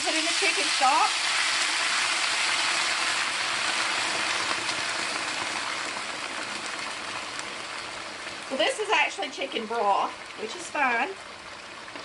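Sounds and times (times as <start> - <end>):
broth pouring into pan: 0.0 - 12.0
pan hissing and sizzling: 0.0 - 12.0.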